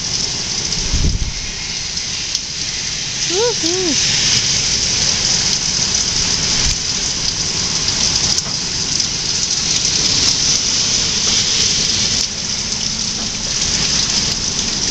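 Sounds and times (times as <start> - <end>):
heavy rain pouring: 0.0 - 14.9
low wind rumble: 0.0 - 14.9.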